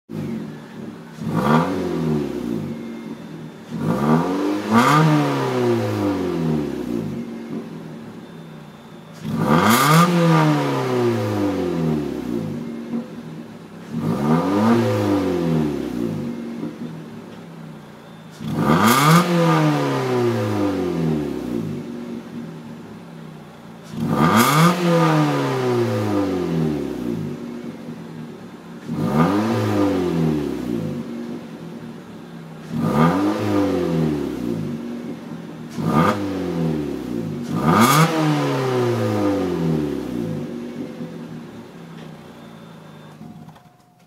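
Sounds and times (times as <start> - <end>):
car engine revving: 0.1 - 43.7.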